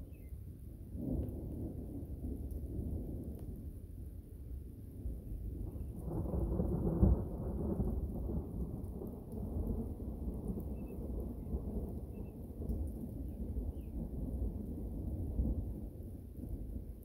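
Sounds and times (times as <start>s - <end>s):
thunder rumbling: 0.9s - 4.1s, 5.0s - 17.0s.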